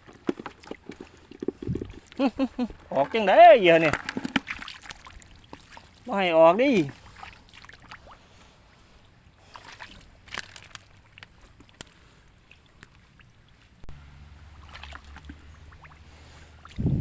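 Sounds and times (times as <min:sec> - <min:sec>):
pond water sloshing and splashing: 0:00.0 - 0:17.0.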